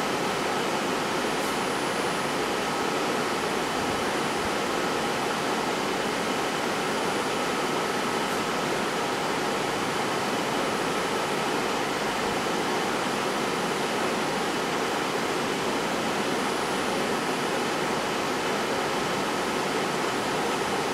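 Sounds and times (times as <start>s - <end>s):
high whines of fans: 0.0s - 20.9s.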